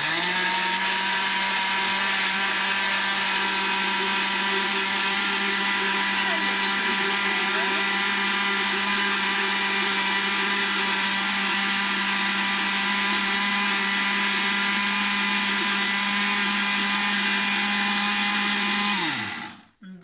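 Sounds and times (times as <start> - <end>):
blender motor humming and whining: 0.0 - 19.8.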